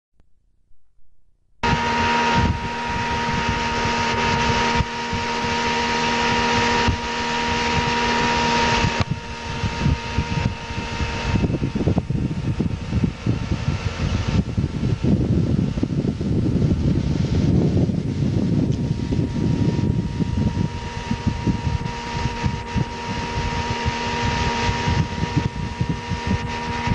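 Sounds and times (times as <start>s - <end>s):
outboard motor drone: 1.6s - 26.9s
rushing air and water: 1.6s - 26.9s
wind buffeting microphone: 1.6s - 26.9s.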